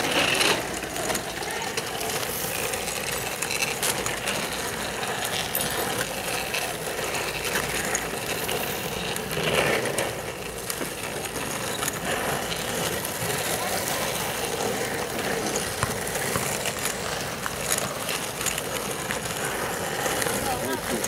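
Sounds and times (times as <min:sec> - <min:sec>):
wheel clicks and clacks: 0:00.0 - 0:21.0
wheels rolling over asphalt: 0:00.0 - 0:21.0.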